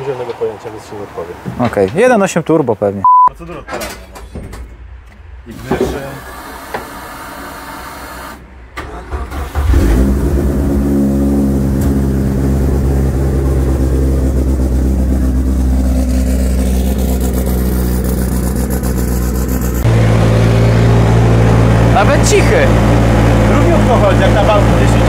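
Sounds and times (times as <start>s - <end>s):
car engine starting and idling: 3.4s - 25.0s.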